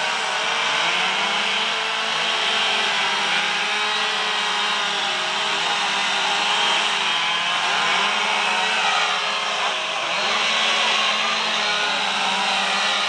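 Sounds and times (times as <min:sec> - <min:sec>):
chainsaws cutting wood: 0:00.0 - 0:13.0.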